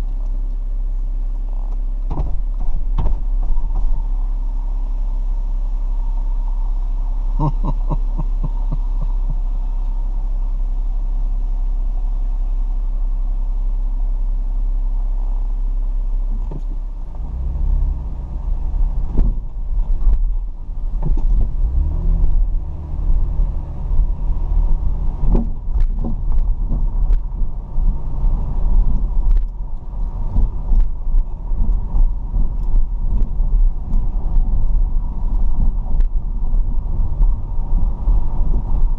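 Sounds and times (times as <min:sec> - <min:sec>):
car engine and road hum: 0:00.0 - 0:38.9.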